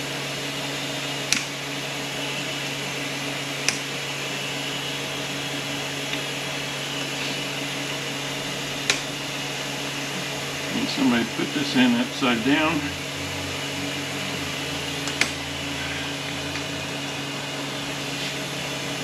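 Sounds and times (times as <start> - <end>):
shop machine hum: 0.0 - 19.0.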